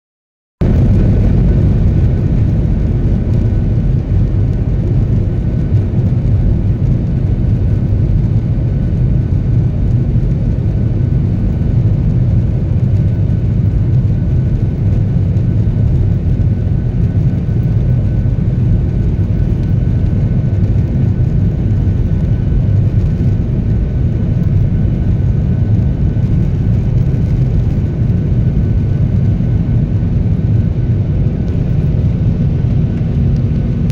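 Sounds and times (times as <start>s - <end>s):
jet engines rumbling: 0.6s - 33.9s.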